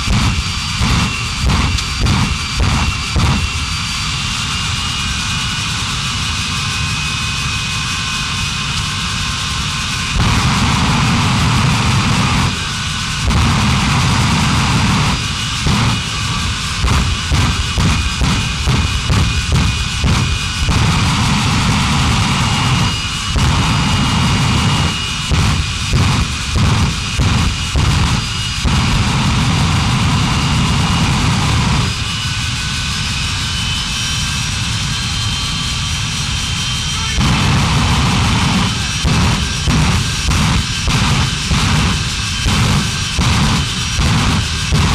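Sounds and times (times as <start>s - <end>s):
monster truck engine running: 0.0s - 4.8s, 9.0s - 32.1s, 36.0s - 44.9s.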